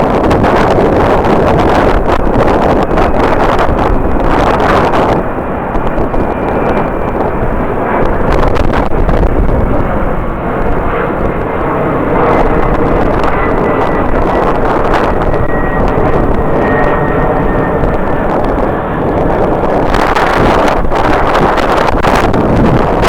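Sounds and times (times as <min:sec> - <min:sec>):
jet engines running: 0:00.0 - 0:23.0
wind buffeting microphone: 0:00.0 - 0:23.0.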